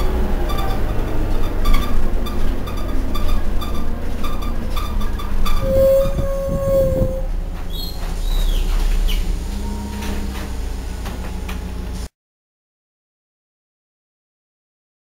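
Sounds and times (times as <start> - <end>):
bus engine humming: 0.0 - 12.1.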